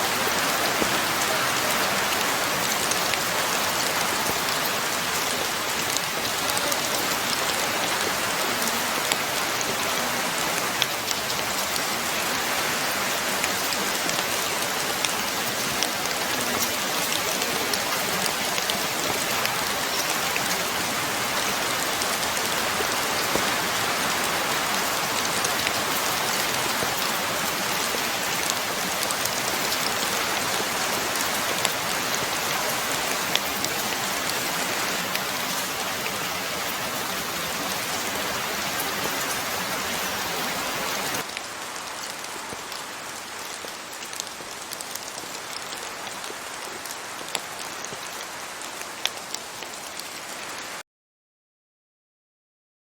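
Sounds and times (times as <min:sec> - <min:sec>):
steady rain falling: 0:00.0 - 0:50.8.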